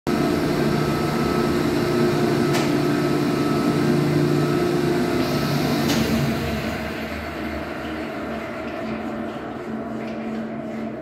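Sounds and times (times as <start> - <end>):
pumps humming: 0.1 - 11.0.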